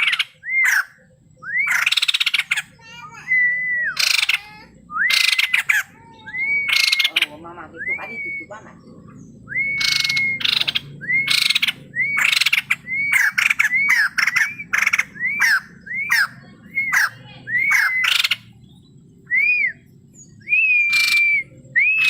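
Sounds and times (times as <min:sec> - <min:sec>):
bird singing whistled notes: 0:00.0 - 0:22.0
harsh raspy bird calls: 0:00.0 - 0:22.0.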